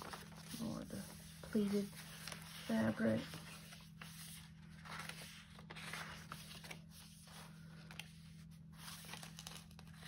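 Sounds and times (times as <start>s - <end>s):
paper pages rustling: 0.0s - 10.0s.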